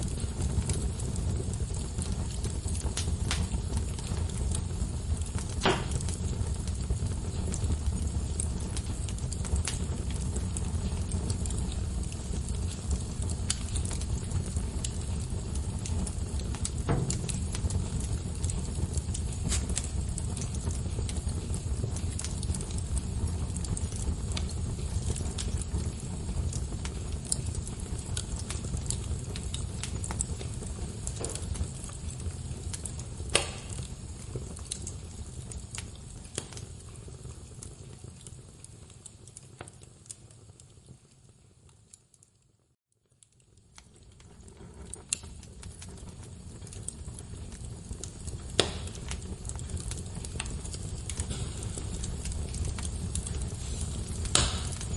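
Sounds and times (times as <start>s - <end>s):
wood fire flames rumbling: 0.0s - 42.2s, 43.0s - 54.9s
burning wood crackling and popping: 0.0s - 54.9s.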